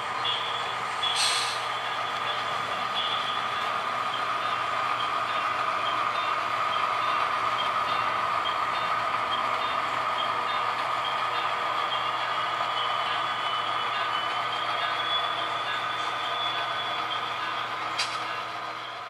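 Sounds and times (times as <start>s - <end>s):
diesel locomotive rumble: 0.0s - 19.0s.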